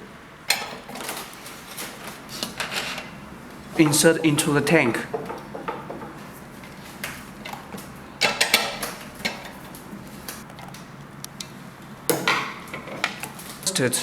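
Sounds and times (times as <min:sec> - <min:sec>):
metal clinking and knocking: 0:00.5 - 0:13.7.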